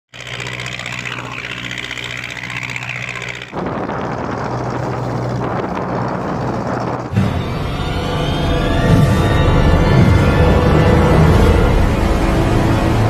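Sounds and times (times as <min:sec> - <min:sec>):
boat diesel engine humming: 0:00.1 - 0:13.0.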